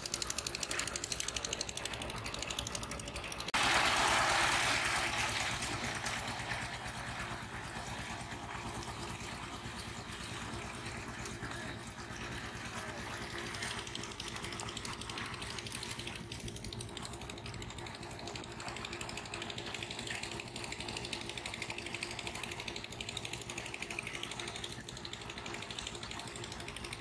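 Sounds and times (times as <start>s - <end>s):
power tiller engine clattering: 0.0s - 27.0s.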